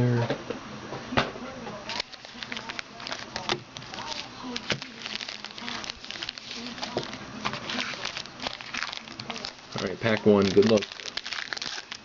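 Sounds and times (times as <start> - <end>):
foil card packs crinkling: 1.9 - 12.0.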